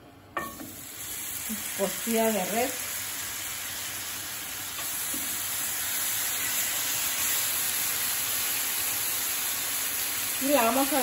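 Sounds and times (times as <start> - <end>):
meat sizzling in a pan: 0.4 - 11.0.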